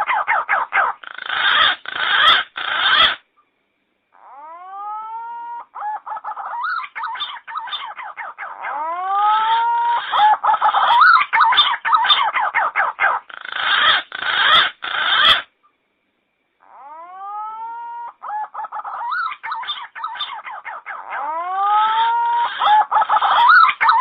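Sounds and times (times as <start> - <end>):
pigeon calls whistling: 0.0 - 3.2, 4.3 - 15.5, 16.8 - 24.0.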